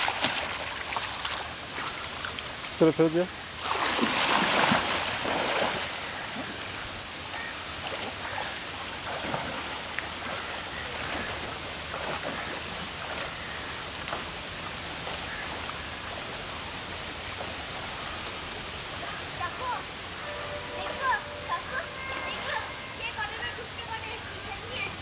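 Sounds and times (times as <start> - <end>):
pool water splashing: 0.0 - 25.0.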